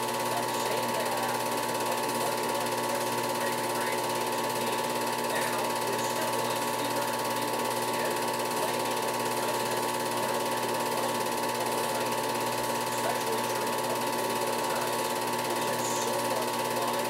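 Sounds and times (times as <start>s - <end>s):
film projector clattering: 0.0s - 17.0s.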